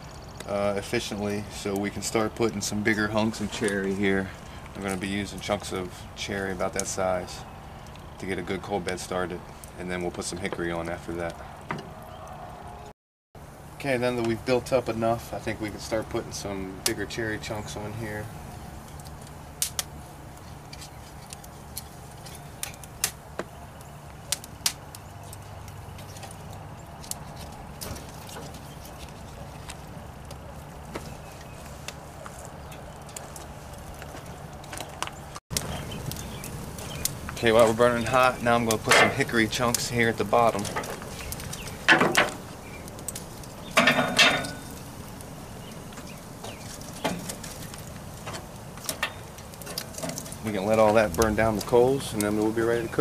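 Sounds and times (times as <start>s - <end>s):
wood fire crackling and popping: 0.0s - 12.6s, 13.6s - 53.0s.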